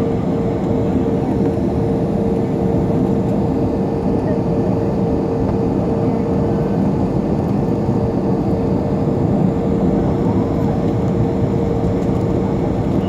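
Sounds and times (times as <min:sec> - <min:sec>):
airliner engines running: 0:00.0 - 0:13.0.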